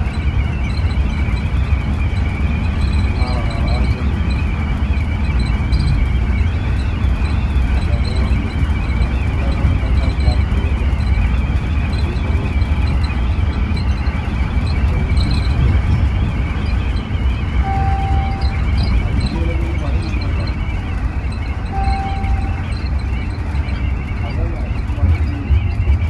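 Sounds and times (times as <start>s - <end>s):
engine and road rumble: 0.0s - 26.0s
thin high whine: 0.0s - 26.0s.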